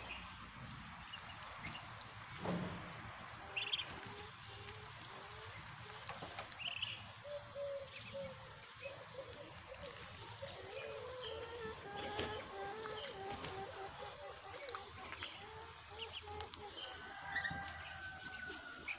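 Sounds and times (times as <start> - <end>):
ducklings peeping and chirping: 0.0 - 18.9
faint outdoor hiss: 0.0 - 18.9.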